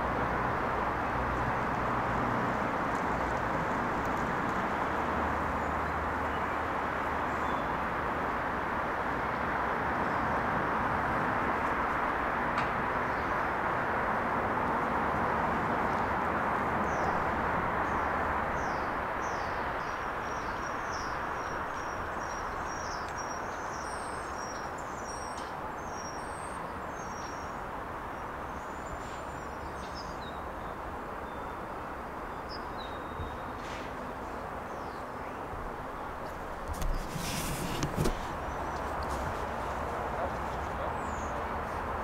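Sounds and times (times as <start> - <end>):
distant city traffic hiss: 0.0 - 42.0.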